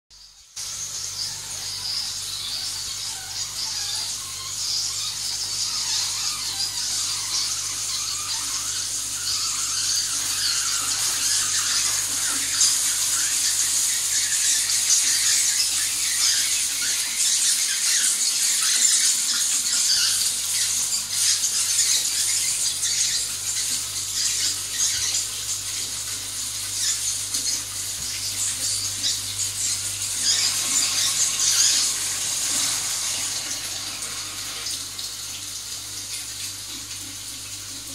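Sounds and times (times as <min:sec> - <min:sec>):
water hissing in urinal plumbing: 0:00.2 - 0:37.9.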